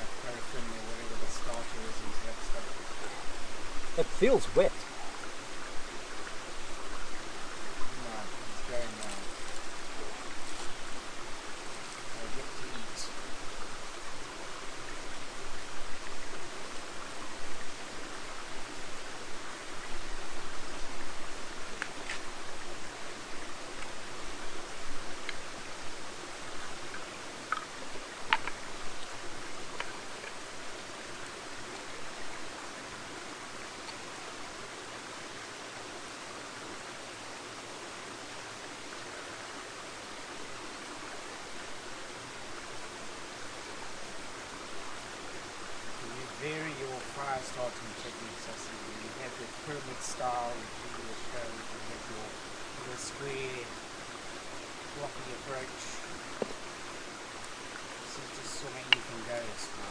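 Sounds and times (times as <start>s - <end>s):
campfire crackling: 0.0s - 34.6s, 39.2s - 59.9s
running water rushing: 0.0s - 59.9s.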